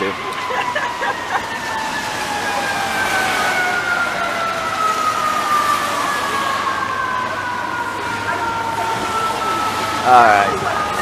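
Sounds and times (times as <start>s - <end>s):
city traffic: 0.0s - 11.0s
emergency vehicle siren: 0.0s - 11.0s.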